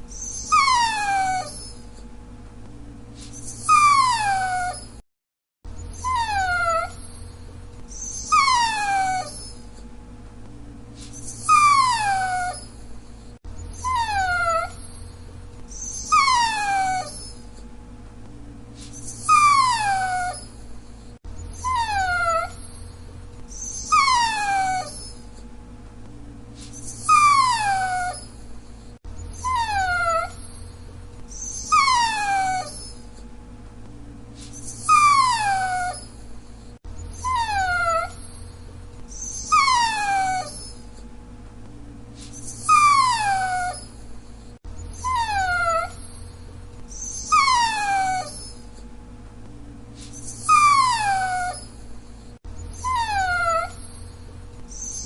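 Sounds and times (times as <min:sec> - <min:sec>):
dog whining: 0:00.0 - 0:02.1, 0:03.2 - 0:05.0, 0:05.7 - 0:09.9, 0:11.0 - 0:17.7, 0:18.8 - 0:25.5, 0:26.6 - 0:33.3, 0:34.4 - 0:41.1, 0:42.2 - 0:48.9, 0:50.0 - 0:55.0
faint steady hum: 0:05.7 - 0:55.0.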